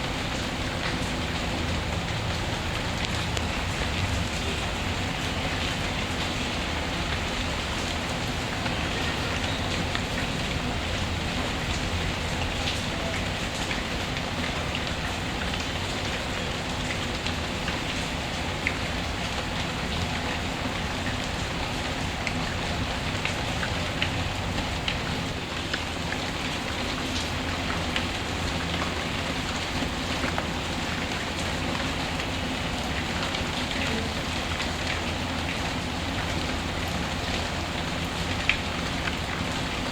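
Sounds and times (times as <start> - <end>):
rain hissing: 0.0 - 39.9
raindrops ticking: 0.0 - 39.9.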